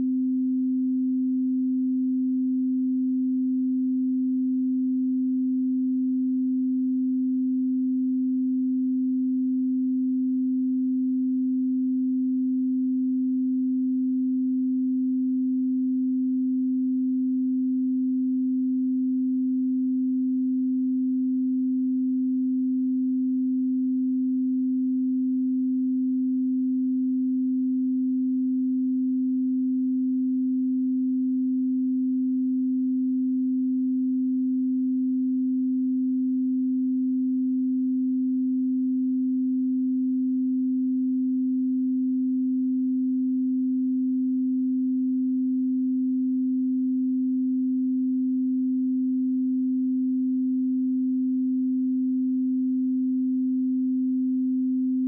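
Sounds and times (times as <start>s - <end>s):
pure sine tone: 0.0s - 55.0s.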